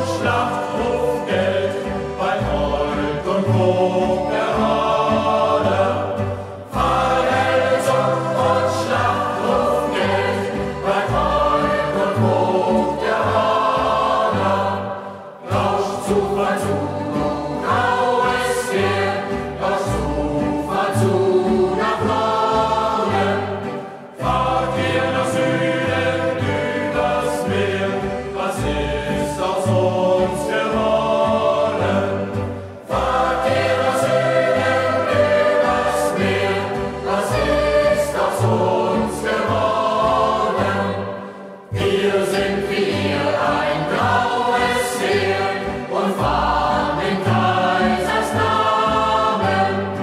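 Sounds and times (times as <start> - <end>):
choir singing: 0.0 - 50.0
instrumental accompaniment: 0.0 - 50.0.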